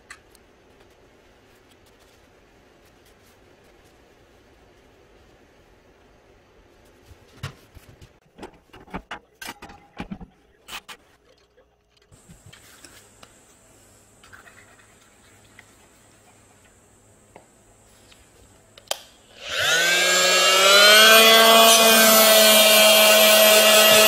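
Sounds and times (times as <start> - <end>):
faint steady hum: 0.0 - 19.6.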